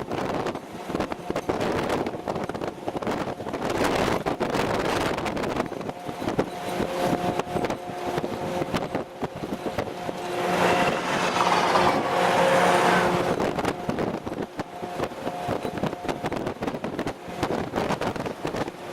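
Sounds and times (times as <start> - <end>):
vehicle engine whine: 0.0 - 18.9
wind rush: 0.0 - 18.9.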